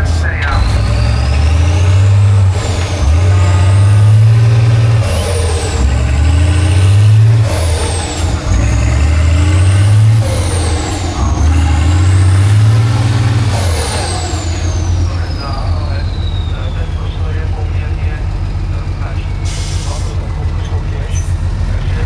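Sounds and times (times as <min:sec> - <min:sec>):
truck engine pulling hard: 0:00.0 - 0:22.0.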